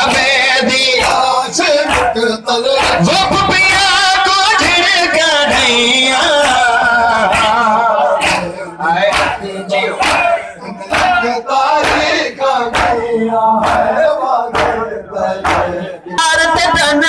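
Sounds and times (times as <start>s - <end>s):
crowd slapping chests in unison: 0.0s - 17.0s
men chanting lament over loudspeaker: 0.0s - 17.0s.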